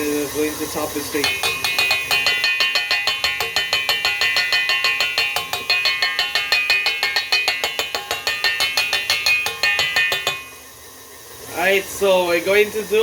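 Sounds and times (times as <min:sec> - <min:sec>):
utensil beating mixture in bowl: 0:00.0 - 0:13.0.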